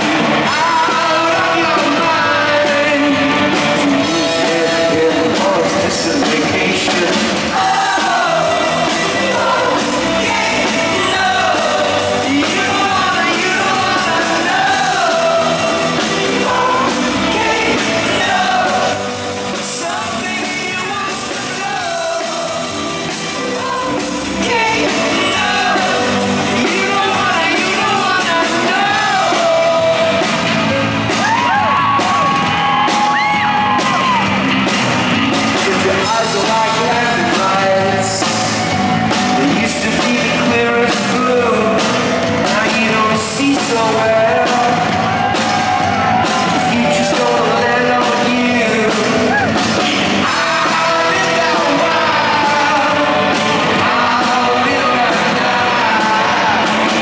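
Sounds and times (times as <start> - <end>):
live rock band: 0.0 - 57.0
singer singing and shouting: 0.0 - 57.0.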